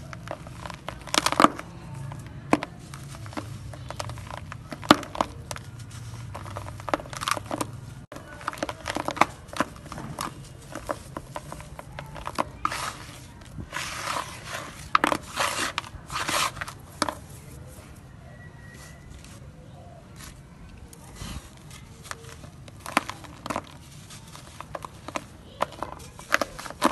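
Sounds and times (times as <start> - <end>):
sand crumbling through fingers: 0.0 - 18.0, 18.6 - 26.9.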